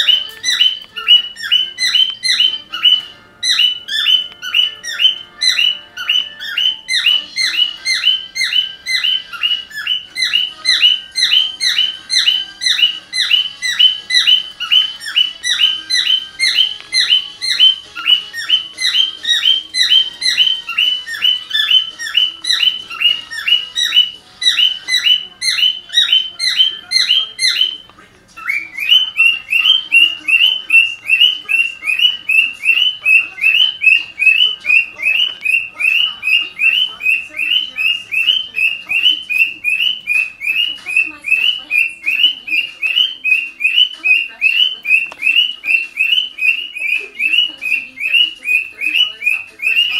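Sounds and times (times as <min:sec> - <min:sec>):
bird mimicking car alarm chirps: 0:00.0 - 0:49.9.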